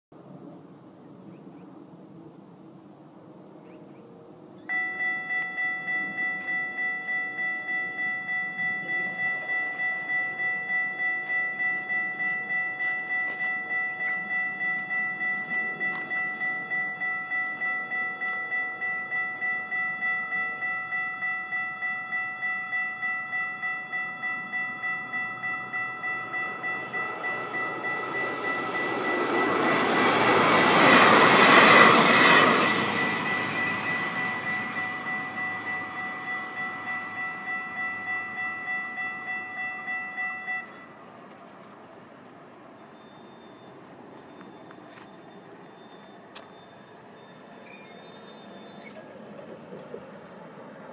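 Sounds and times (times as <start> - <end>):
train passing: 0.2 - 50.9
electronic crossing bells ringing: 4.7 - 49.4.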